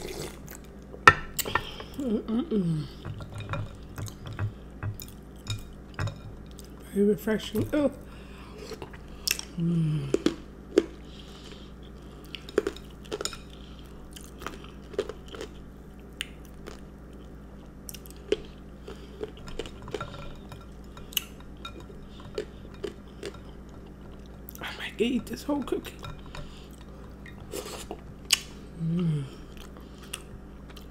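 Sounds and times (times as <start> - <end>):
person chewing and crunching food: 0.0 - 6.8, 7.6 - 30.9.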